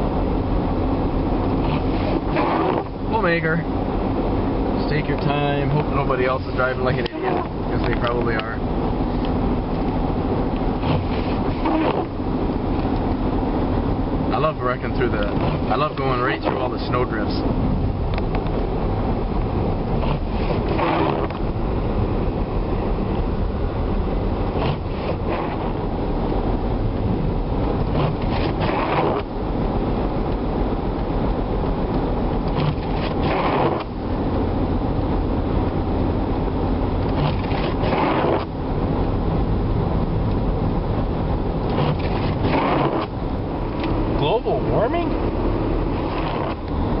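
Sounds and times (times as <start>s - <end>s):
vehicle driving noise from inside: 0.0s - 47.0s.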